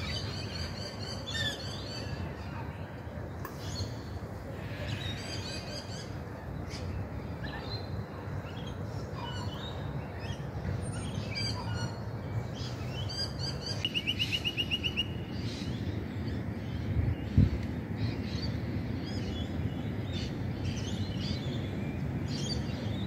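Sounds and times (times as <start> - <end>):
wild birds calling and singing: 0.0 - 23.0.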